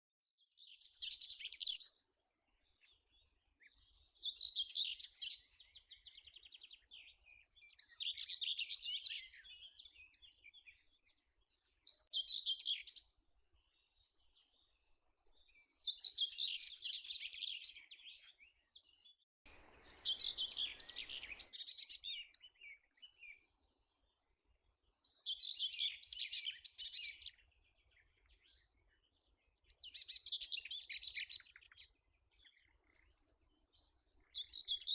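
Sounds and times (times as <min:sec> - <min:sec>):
songbird singing: 0:00.4 - 0:34.9.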